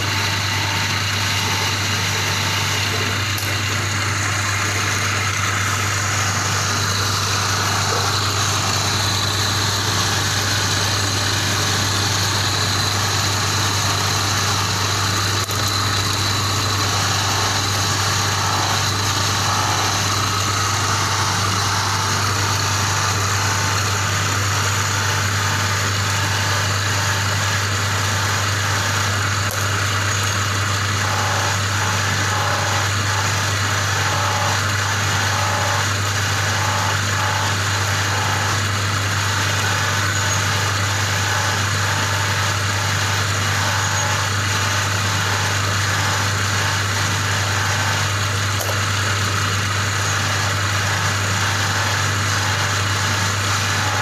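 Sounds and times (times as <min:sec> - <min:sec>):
polishing machine motor hum: 0:00.0 - 0:54.0.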